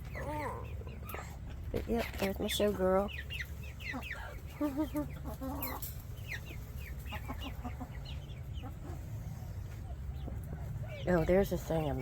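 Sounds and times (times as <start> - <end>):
drawn-out hen calls: 0.0 - 12.0
hens clucking: 0.0 - 12.0.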